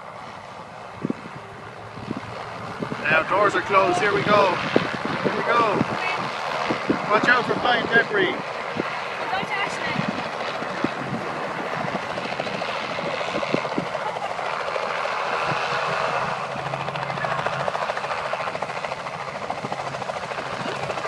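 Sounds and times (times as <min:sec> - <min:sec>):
helicopter rotor beating: 0:00.0 - 0:21.0.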